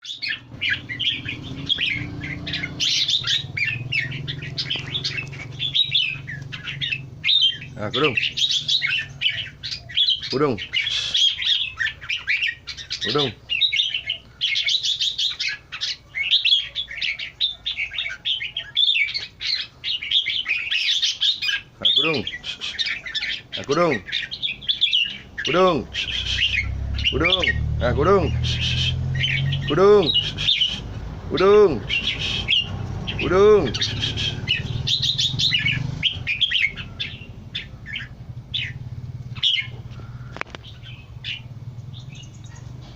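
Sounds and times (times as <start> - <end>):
birds chirping and chattering: 0.0 - 42.9.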